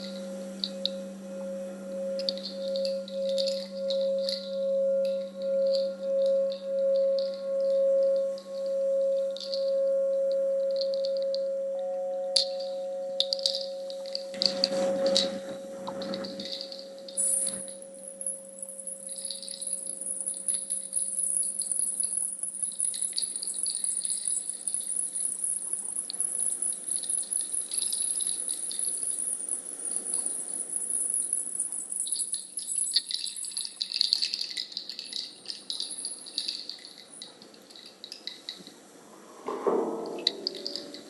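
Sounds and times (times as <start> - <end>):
shaken percussion rattle: 0.0 - 11.5, 12.4 - 41.0
steady ringing tone: 0.0 - 33.6, 39.4 - 41.0.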